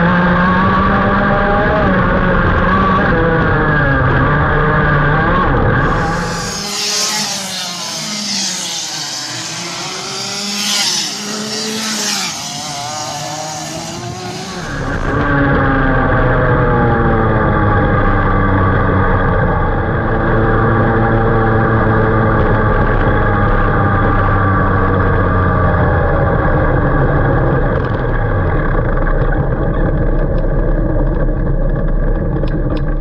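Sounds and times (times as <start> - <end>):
kart engine running: 0.0 - 33.0.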